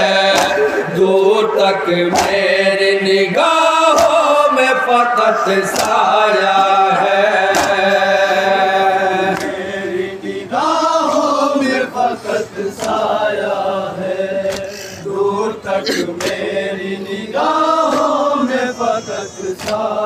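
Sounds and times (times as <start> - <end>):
men chanting a lament: 0.0 - 20.0.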